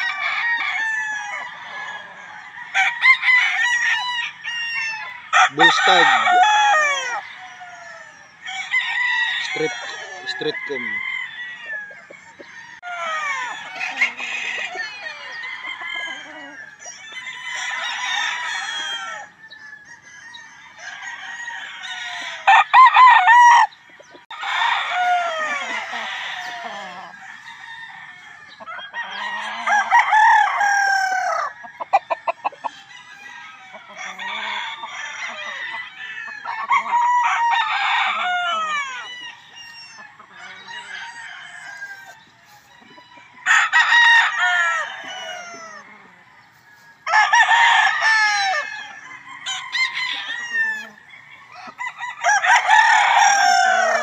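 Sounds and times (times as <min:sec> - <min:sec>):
roosters crowing: 0:00.0 - 0:54.0.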